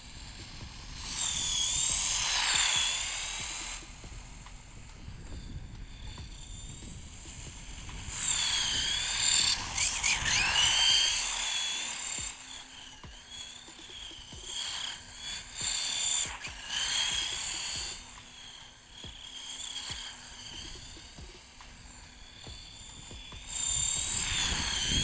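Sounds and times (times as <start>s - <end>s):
toy car electric motor whining: 0.2s - 5.5s, 6.1s - 25.0s.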